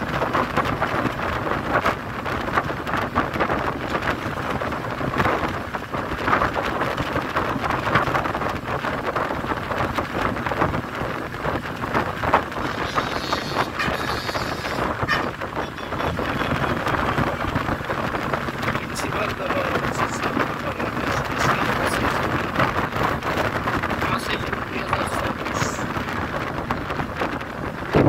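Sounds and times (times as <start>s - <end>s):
wind and road noise: 0.0s - 28.0s.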